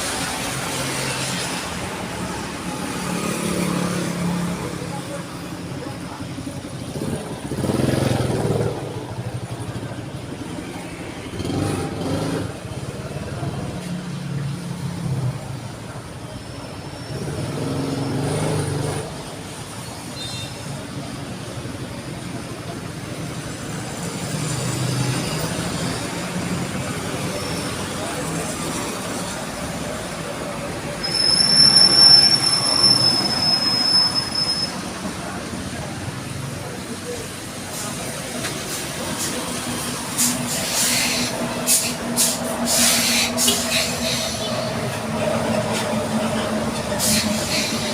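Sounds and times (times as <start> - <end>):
heavy highway traffic: 0.0 - 47.9.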